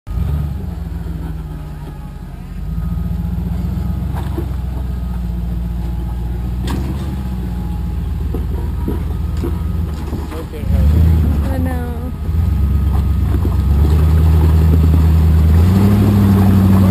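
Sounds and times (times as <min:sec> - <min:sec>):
engine running at low revs: 0:00.1 - 0:16.9.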